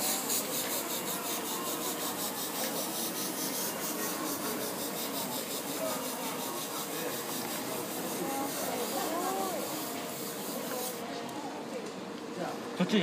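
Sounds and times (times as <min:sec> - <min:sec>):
airbrush hissing compressed air: 0:00.0 - 0:11.0.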